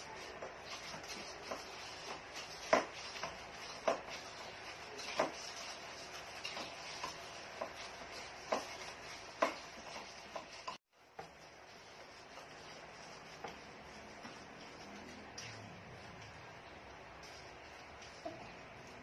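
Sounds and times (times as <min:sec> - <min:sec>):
spoons stirring ice in plastic cups: 0:00.1 - 0:16.5.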